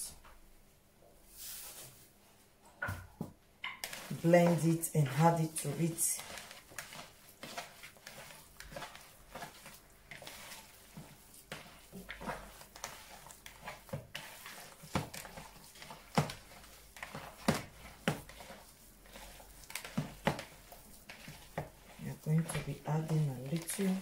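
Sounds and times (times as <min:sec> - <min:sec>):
hands kneading meat squelching: 0:03.8 - 0:24.0.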